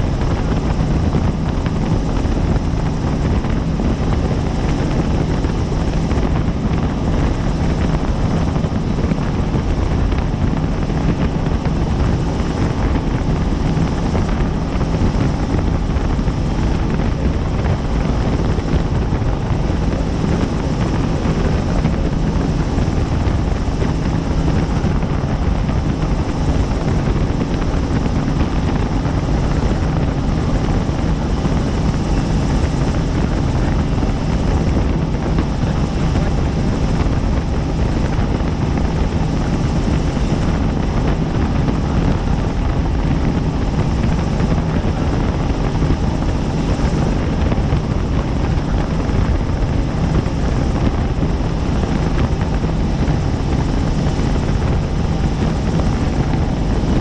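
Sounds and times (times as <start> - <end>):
helicopter rotor and engine drone: 0.0 - 57.0.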